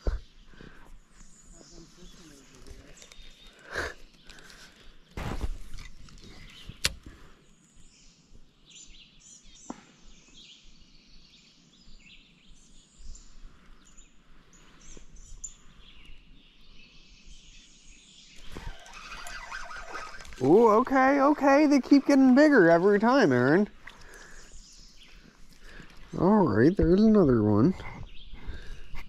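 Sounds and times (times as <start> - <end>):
birds chirping and singing: 0.0 - 29.0
faint outdoor background noise: 0.0 - 29.0.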